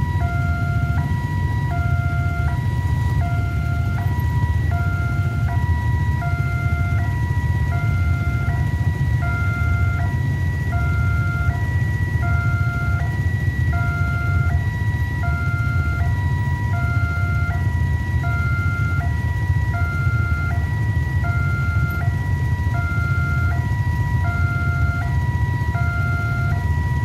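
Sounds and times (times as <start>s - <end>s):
level crossing two-tone alarm: 0.0s - 27.0s
steady low rumble: 0.0s - 27.0s.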